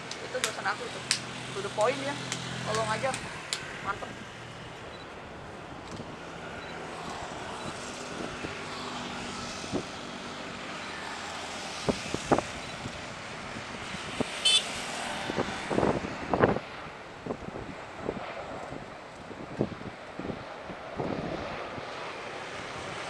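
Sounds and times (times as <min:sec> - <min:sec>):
jet engines whooshing: 0:00.0 - 0:23.0.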